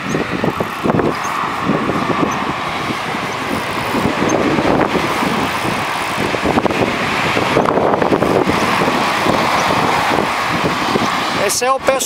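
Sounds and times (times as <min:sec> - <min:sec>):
road traffic: 0:00.0 - 0:12.0
wind on microphone: 0:00.0 - 0:12.0.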